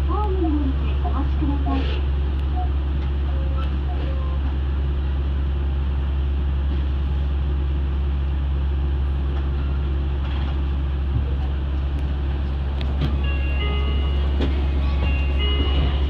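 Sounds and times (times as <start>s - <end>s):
monorail train running on track: 0.0s - 16.0s.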